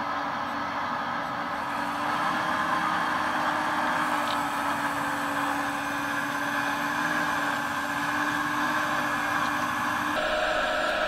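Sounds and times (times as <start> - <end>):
model excavator mechanical hum: 0.0 - 11.0.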